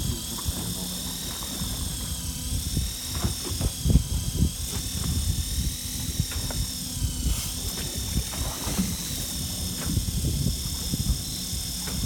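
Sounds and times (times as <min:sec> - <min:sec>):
boat machinery whining: 0:00.0 - 0:12.0.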